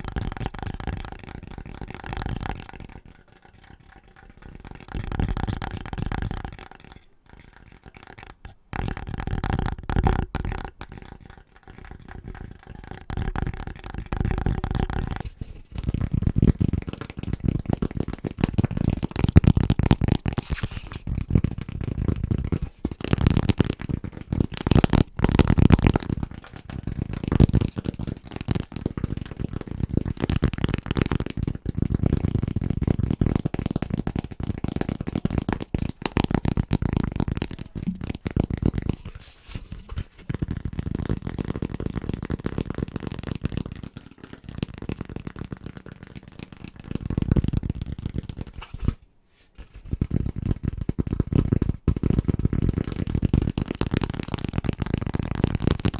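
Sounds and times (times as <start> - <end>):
fingers tapping on objects: 0.0 - 39.2, 49.9 - 55.9.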